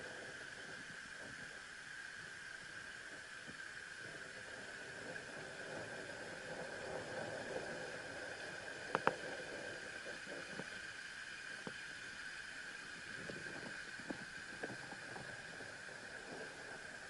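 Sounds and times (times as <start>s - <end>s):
waterfall hiss: 0.0s - 17.0s.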